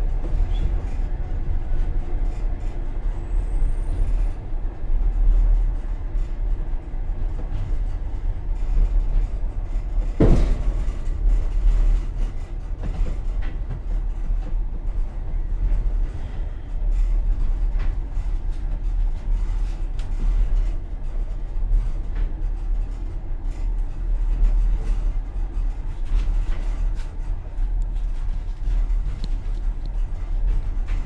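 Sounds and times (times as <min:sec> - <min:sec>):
train low rumble: 0:00.0 - 0:31.0.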